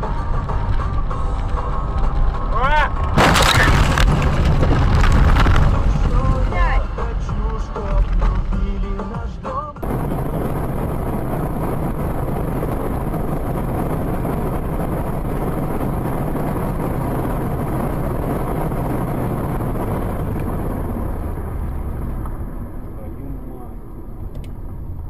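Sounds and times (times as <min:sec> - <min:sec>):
car driving road noise: 0:00.0 - 0:25.0.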